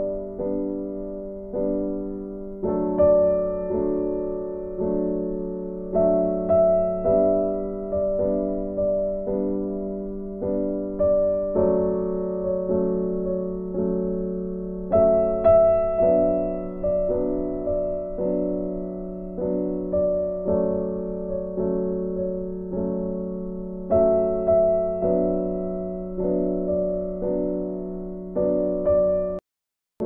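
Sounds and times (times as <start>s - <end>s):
slow piano music: 0.0s - 29.4s.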